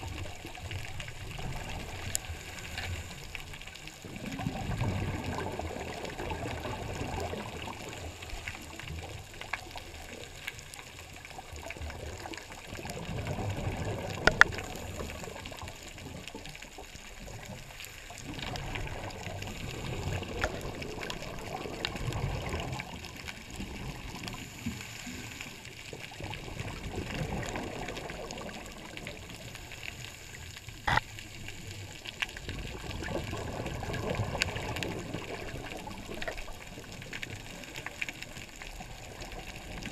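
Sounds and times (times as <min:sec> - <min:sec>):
underwater regulator bubbles gurgling: 0:00.0 - 0:39.9.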